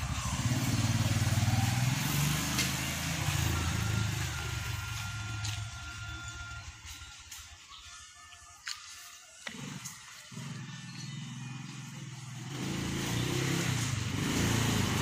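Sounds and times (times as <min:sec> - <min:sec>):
moped engine pulling away: 0:00.0 - 0:07.3, 0:09.4 - 0:15.0.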